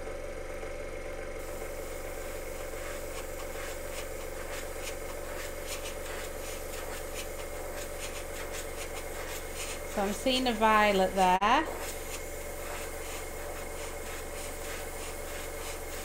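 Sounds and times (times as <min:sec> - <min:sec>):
compressor humming: 0:00.0 - 0:16.0
airbrush spraying hiss: 0:01.4 - 0:16.0.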